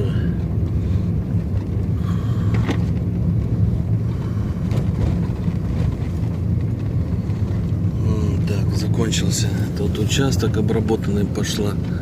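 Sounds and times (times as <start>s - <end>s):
car engine drone: 0.0s - 12.0s
road and wind noise: 0.0s - 12.0s.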